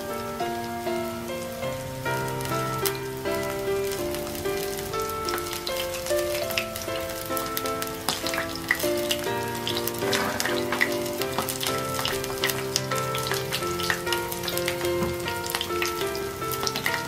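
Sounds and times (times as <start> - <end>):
background music: 0.0 - 17.0
fish frying in oil: 0.0 - 17.0.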